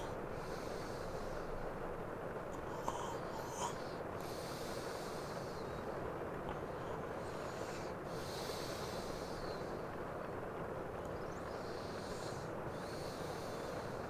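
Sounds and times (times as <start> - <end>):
man breathing heavily in sleep: 0.0 - 1.8, 2.4 - 10.0, 11.2 - 14.0
rain hiss: 0.0 - 14.0.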